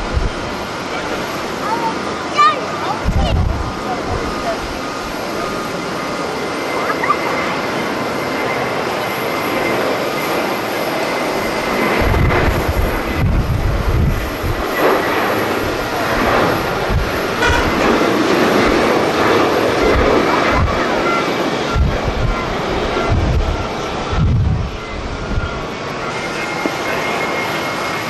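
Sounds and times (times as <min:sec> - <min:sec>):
jet engines rushing with whine: 0:00.0 - 0:28.0
wind buffeting microphone: 0:00.0 - 0:28.0.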